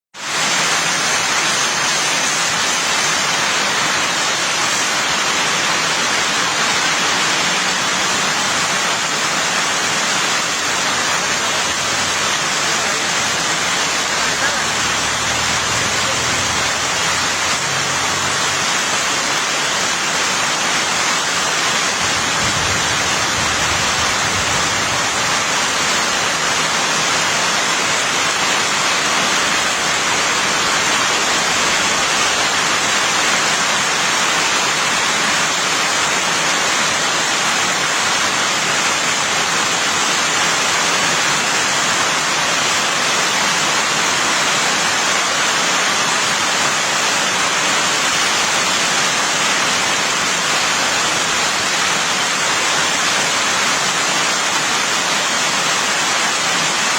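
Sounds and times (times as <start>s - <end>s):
steady rain hiss: 0.1s - 56.9s.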